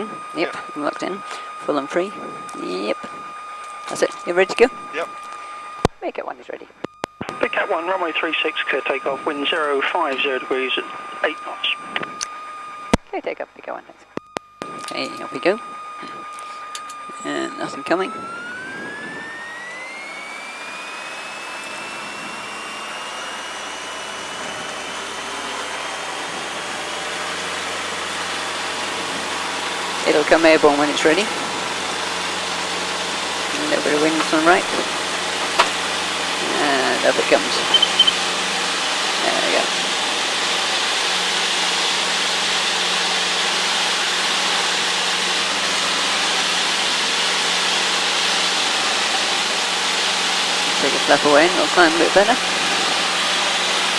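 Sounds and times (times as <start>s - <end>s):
light aircraft engine at full power: 0.0s - 5.9s, 7.3s - 13.0s, 14.6s - 53.9s.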